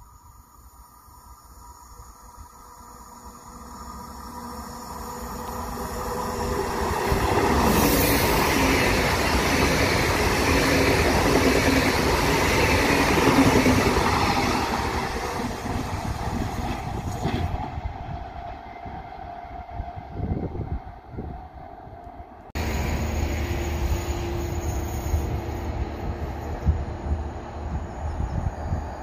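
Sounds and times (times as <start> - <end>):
high-speed train passing: 0.0 - 29.0
train approaching: 0.0 - 29.0
wheels on rail rushing: 2.4 - 29.0.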